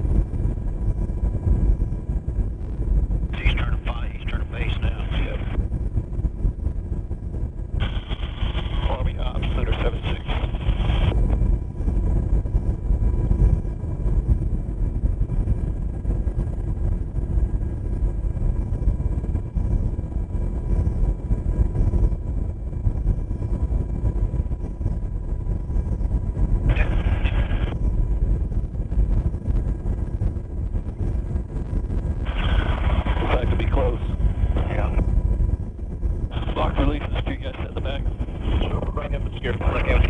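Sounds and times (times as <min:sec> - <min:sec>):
gearbox and turbine whine: 0:00.0 - 0:40.0
helicopter rotor and engine rumble: 0:00.0 - 0:40.0.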